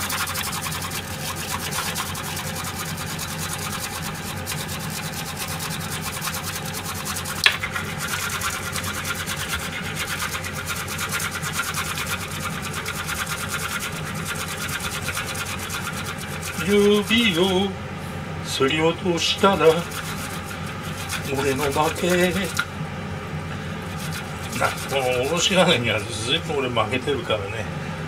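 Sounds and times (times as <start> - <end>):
ginger rasping on metal grater: 0.0 - 17.7, 19.1 - 22.7, 23.8 - 26.7.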